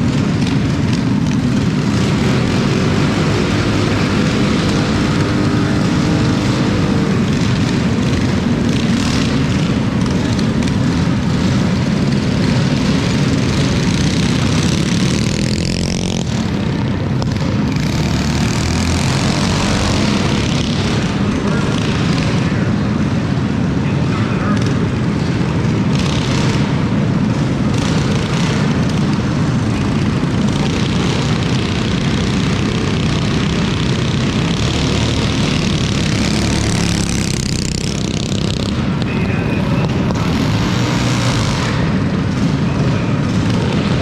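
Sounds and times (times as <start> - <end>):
minibike engines buzzing: 0.0 - 44.0.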